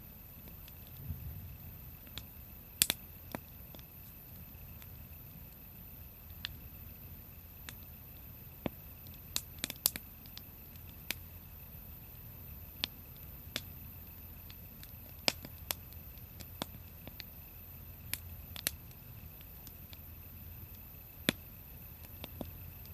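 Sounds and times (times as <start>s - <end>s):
wood fire crackling: 0.0s - 22.9s.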